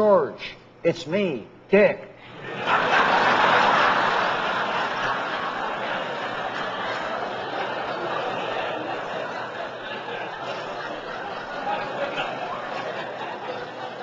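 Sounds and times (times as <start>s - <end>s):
audience laughing: 2.2s - 14.0s.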